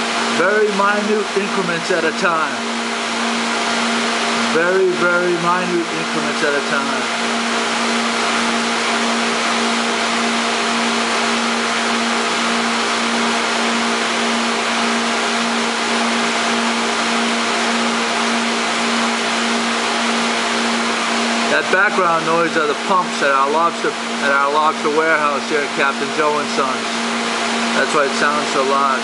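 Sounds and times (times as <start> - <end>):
pumps humming: 0.0 - 29.0.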